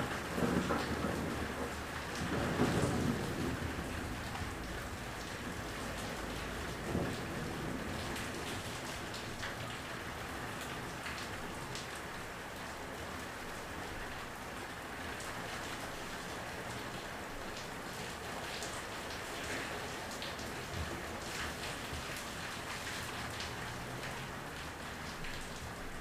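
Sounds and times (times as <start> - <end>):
raindrops ticking on hard surface: 0.0 - 26.0
steady rain hissing: 0.0 - 26.0.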